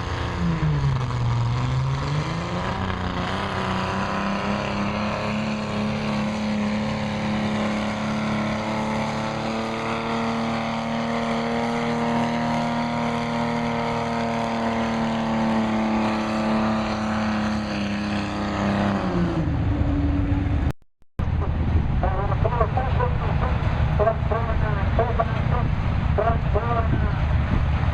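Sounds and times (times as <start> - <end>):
tractor diesel engine under load: 0.0 - 27.9.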